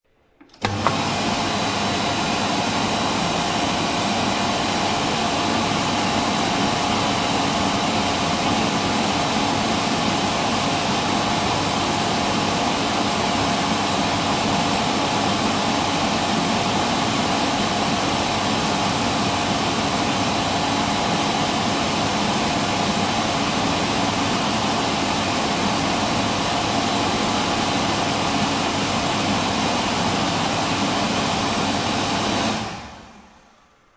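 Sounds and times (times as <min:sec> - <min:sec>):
electric hand dryer blowing air: 0:00.4 - 0:33.8.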